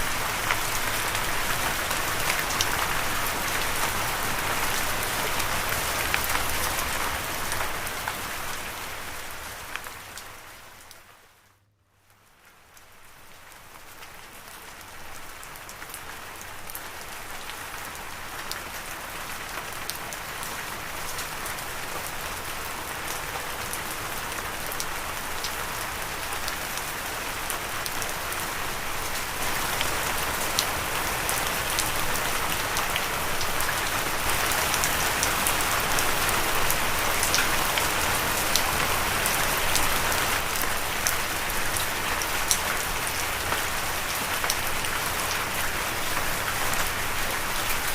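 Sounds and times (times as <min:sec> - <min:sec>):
steady rain falling: 0:00.0 - 0:11.4, 0:12.0 - 0:47.9.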